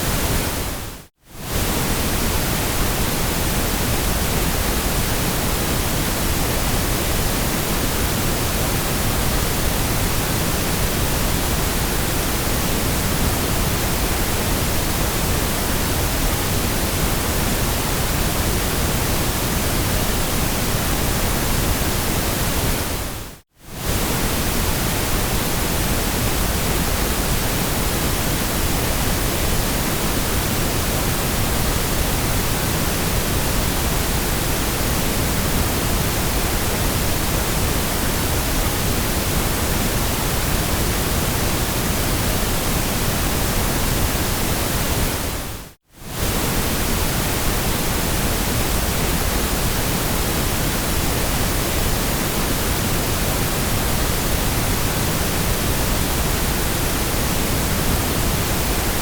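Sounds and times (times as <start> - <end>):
steady generated noise hiss: 0.0 - 59.0.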